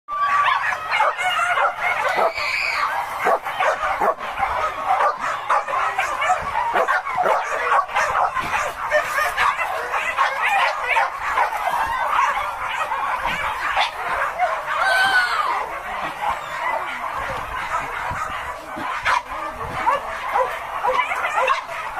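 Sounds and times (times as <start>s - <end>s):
dogs yelping and baying: 0.1s - 21.9s.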